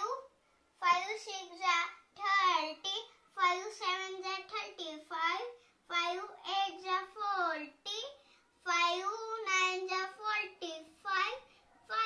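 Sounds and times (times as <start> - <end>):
child singing unaccompanied: 0.9 - 12.0.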